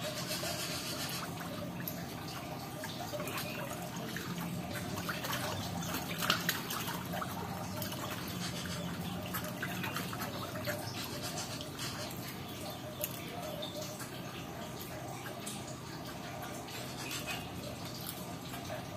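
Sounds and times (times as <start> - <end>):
water trickling into pond: 0.0 - 18.9.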